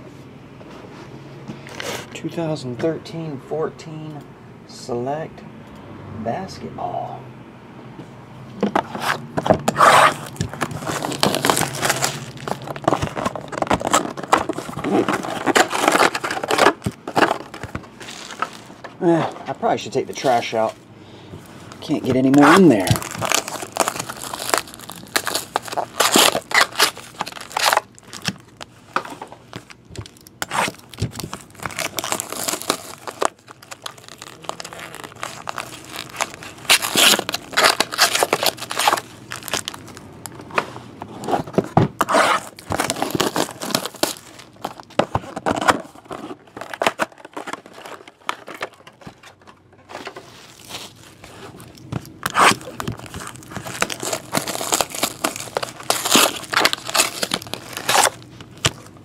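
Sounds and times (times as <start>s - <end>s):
plastic wrappers crinkling: 8.9s - 20.8s, 21.4s - 40.5s, 41.4s - 59.0s.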